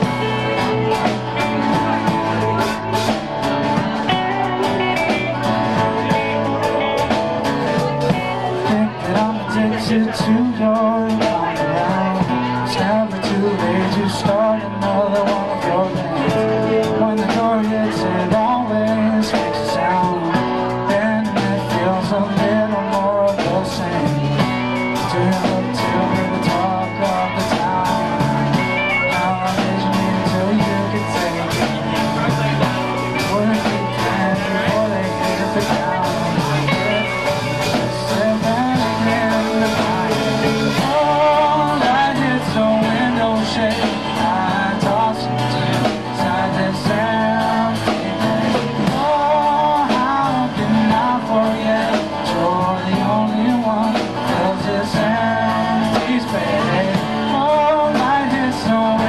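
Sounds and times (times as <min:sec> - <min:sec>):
drums keeping a steady beat: 0:00.0 - 0:59.0
electric and acoustic guitars: 0:00.0 - 0:59.0
keyboard playing: 0:00.0 - 0:59.0.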